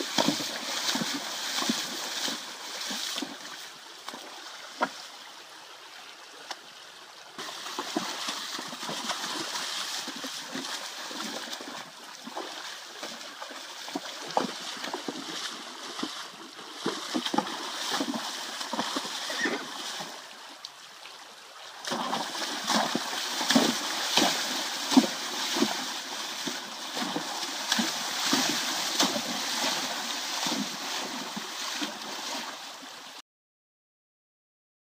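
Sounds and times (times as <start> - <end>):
horses splashing in water: 0.0 - 5.2, 7.4 - 33.2
rushing stream water: 0.0 - 33.2.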